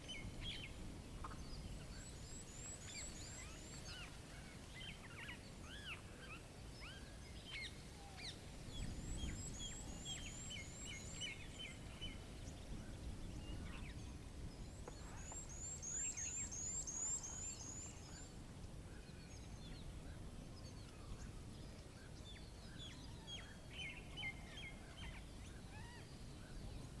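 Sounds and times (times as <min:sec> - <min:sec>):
wild birds chirping: 0:00.0 - 0:27.0.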